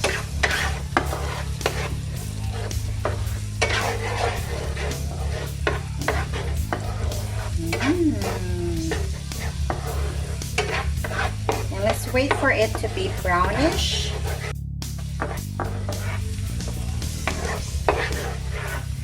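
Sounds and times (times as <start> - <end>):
garlic sizzling in butter: 0.0 - 14.5, 15.2 - 19.0
utensil tapping and scraping pan: 0.0 - 14.5, 15.1 - 19.0.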